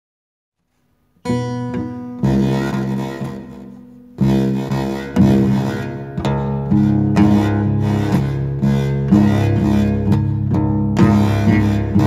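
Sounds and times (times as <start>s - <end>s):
distorted guitar chords: 1.0s - 12.0s.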